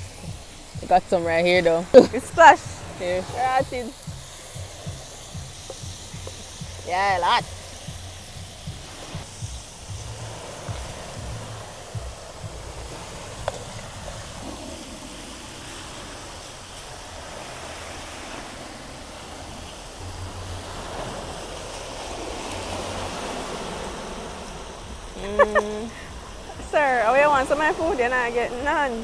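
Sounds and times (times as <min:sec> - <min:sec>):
surf washing on beach: 0:00.0 - 0:29.0
wind buffeting microphone: 0:00.0 - 0:29.0.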